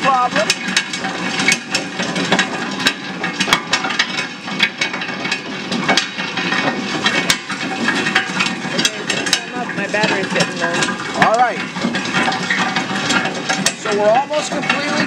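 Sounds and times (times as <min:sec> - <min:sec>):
nut-cracking machine running: 0:00.0 - 0:15.0.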